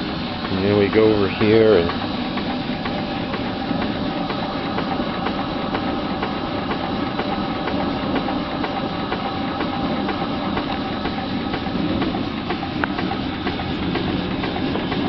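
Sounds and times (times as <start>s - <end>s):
steam engine running: 0.0s - 15.0s.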